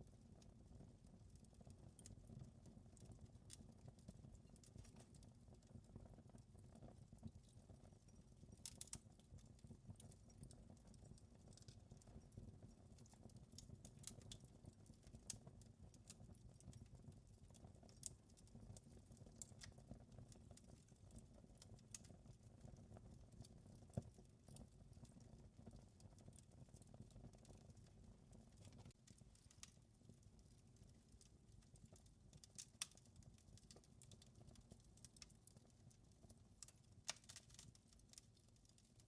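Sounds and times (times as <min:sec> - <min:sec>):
wood fire crackling and popping: 0:00.2 - 0:39.0.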